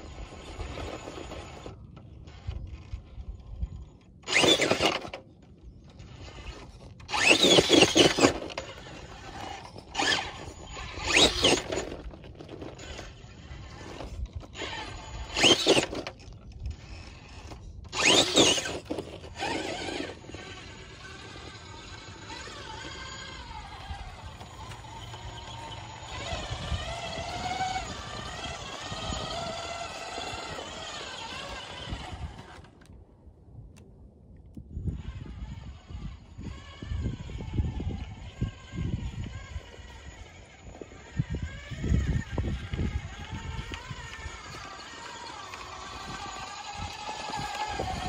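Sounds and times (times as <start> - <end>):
electric motor whining: 0.0 - 5.2, 5.8 - 32.9, 34.8 - 48.0.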